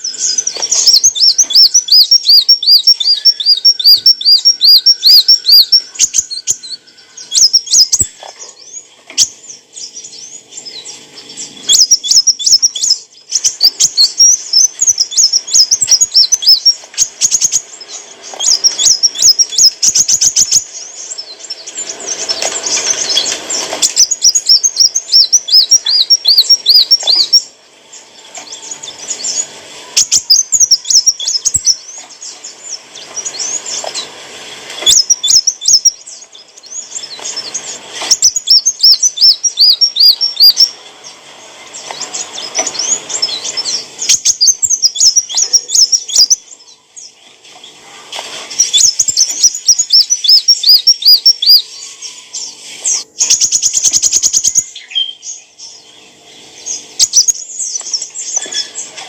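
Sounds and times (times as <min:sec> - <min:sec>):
sunbird twittering song: 0:00.0 - 0:59.0.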